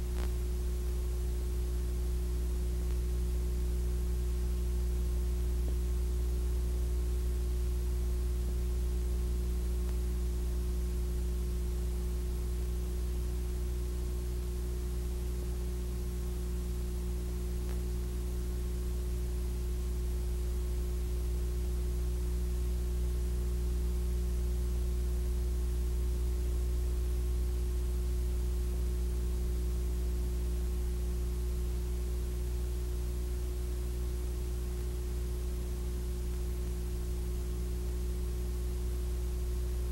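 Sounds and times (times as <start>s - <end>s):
constant hiss: 0.0s - 39.9s
low electrical hum: 0.0s - 39.9s.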